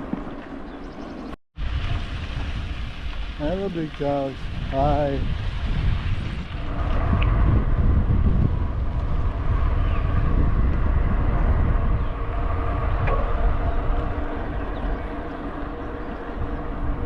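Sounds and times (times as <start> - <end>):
bicycle tyre noise on road: 0.0 - 17.0
wind rumble on microphone: 0.0 - 17.0.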